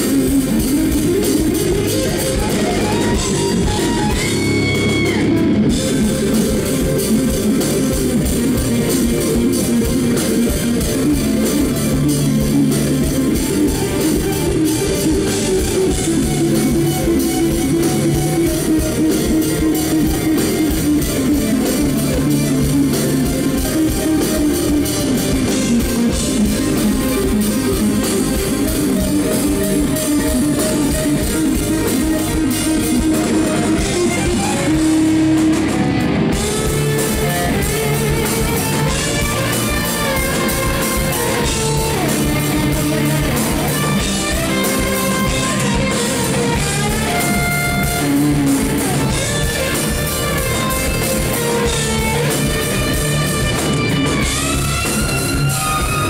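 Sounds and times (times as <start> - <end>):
drum kit: 0.0 - 56.0
electric bass: 0.0 - 56.0
lead electric guitar melody: 0.0 - 56.0.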